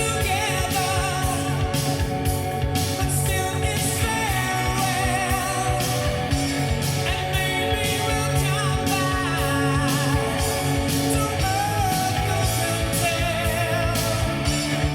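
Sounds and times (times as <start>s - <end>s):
rock song with singer: 0.0s - 14.9s
steady drum beat: 0.0s - 14.9s.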